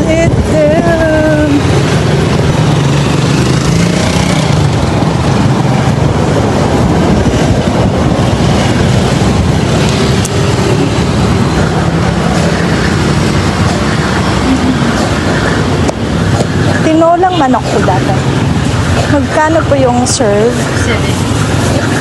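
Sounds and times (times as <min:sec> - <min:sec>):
road traffic engines rumbling: 0:00.0 - 0:22.0.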